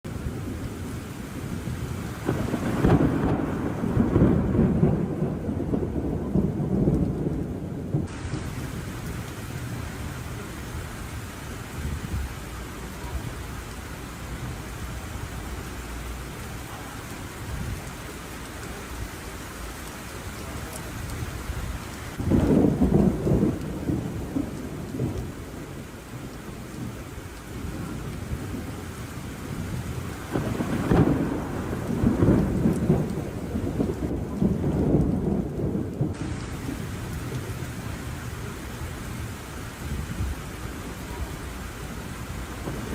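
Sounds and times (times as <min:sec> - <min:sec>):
steady rain: 0:00.0 - 0:42.9
rolling thunder: 0:00.1 - 0:19.1, 0:20.4 - 0:42.9.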